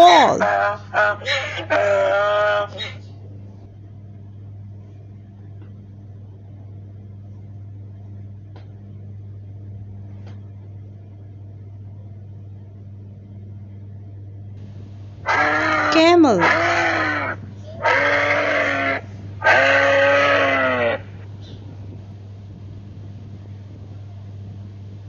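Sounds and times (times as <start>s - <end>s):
low hum: 3.0s - 25.0s.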